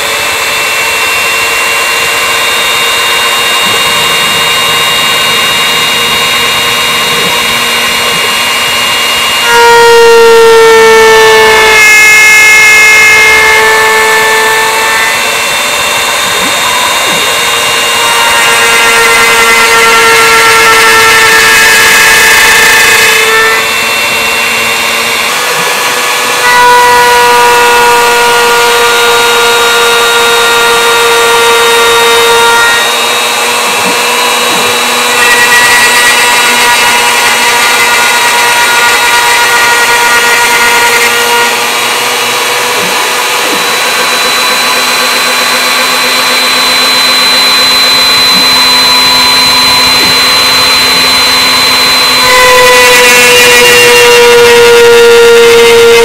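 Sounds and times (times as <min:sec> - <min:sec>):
router machine whine: 0:00.0 - 0:56.0.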